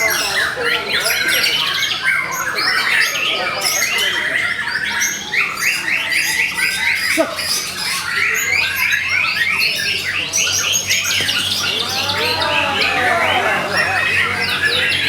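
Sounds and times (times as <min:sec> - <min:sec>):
bird singing rapid phrases: 0:00.0 - 0:15.0.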